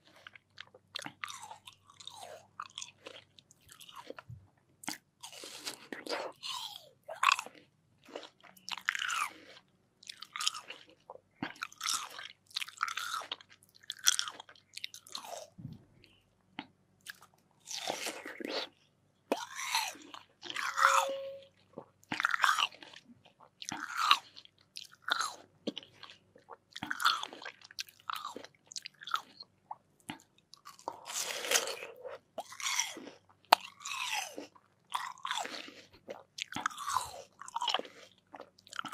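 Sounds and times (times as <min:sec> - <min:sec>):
chewing watermelon crunches: 0:00.0 - 0:20.8, 0:21.6 - 0:38.9.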